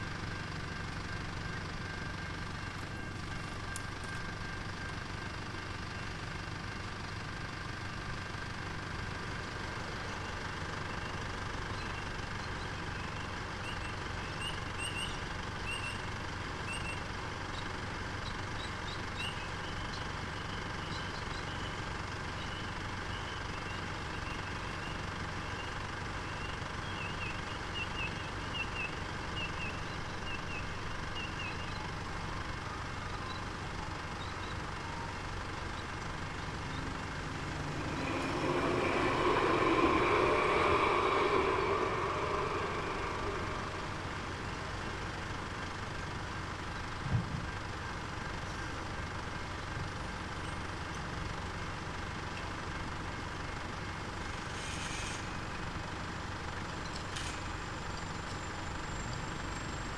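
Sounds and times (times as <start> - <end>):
road traffic hum: 0.0 - 59.9
tram approaching: 0.0 - 59.9.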